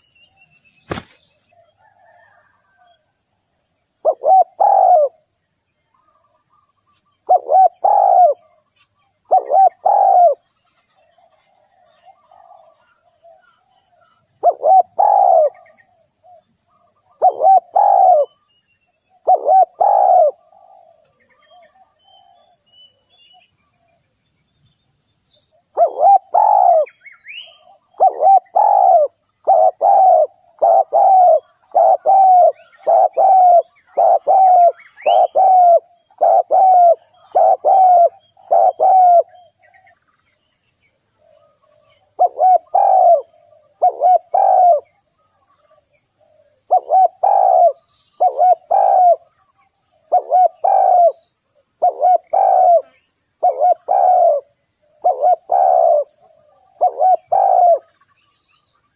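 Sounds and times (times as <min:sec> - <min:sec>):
dove cooing: 0:00.9 - 0:03.0, 0:04.0 - 0:05.3, 0:07.2 - 0:08.6, 0:09.2 - 0:10.5, 0:11.1 - 0:18.5, 0:19.1 - 0:22.6, 0:25.6 - 0:39.9, 0:41.2 - 0:58.0.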